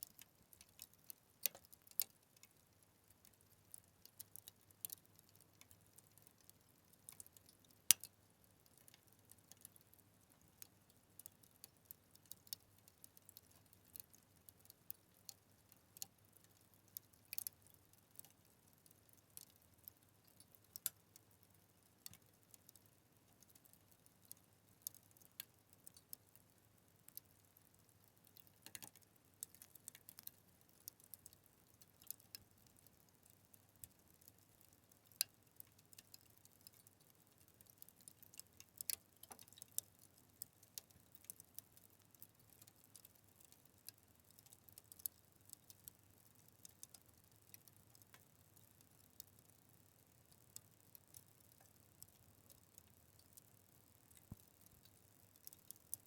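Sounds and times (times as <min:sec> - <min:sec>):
wood fire crackling: 0:00.1 - 0:46.0.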